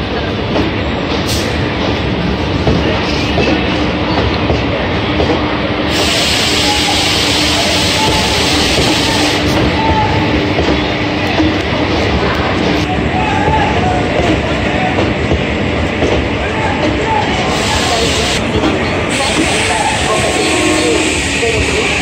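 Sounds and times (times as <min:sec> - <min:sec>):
train coaches rumbling and clattering: 0:00.0 - 0:22.0.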